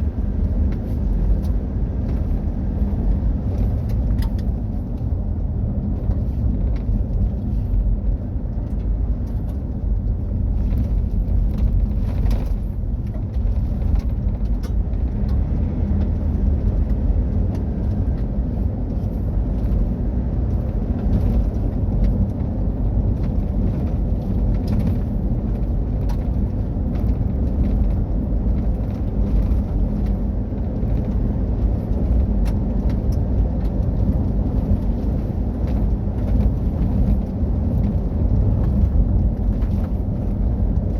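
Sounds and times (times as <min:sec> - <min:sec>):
pickup truck engine rumble: 0:00.0 - 0:40.9.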